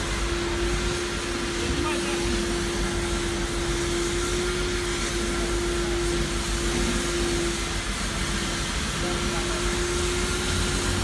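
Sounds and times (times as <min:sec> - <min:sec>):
pump hum: 0:00.0 - 0:11.0
water spray hissing: 0:00.0 - 0:11.0.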